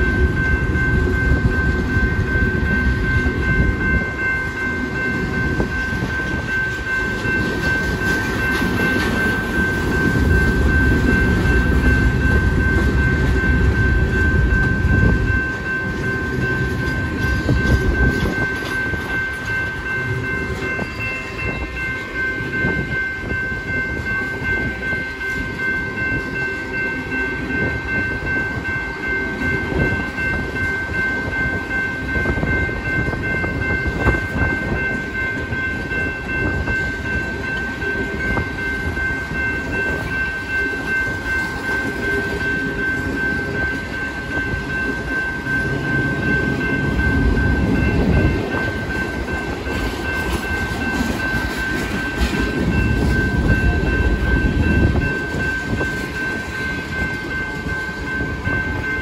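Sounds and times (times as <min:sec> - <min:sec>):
crossing warning bell ringing: 0:00.0 - 0:59.0
freight train rolling past: 0:00.0 - 0:59.0
wheels clattering on rails: 0:00.0 - 0:59.0.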